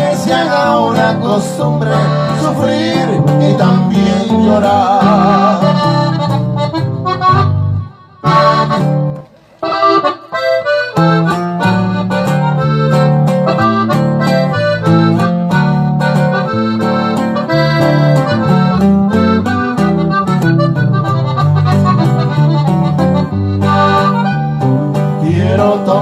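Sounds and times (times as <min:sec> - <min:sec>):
accordion playing: 0:00.0 - 0:26.0
steady bass line: 0:00.0 - 0:26.0.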